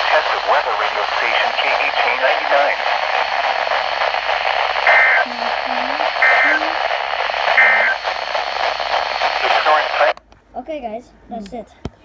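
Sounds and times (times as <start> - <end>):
radio hiss: 0.0 - 10.2.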